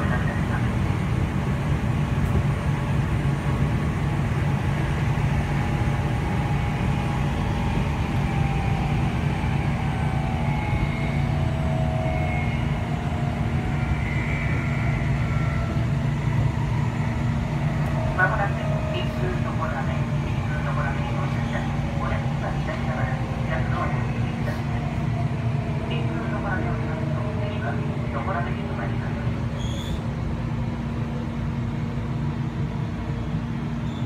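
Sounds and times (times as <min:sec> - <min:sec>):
train rumble and hum inside carriage: 0:00.0 - 0:34.0.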